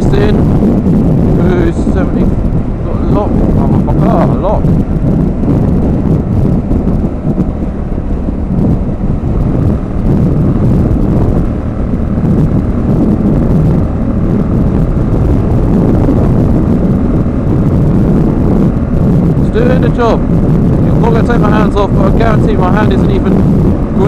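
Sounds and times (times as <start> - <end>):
motorcycle cruising: 0.0 - 24.0
wind buffeting microphone: 0.0 - 24.0.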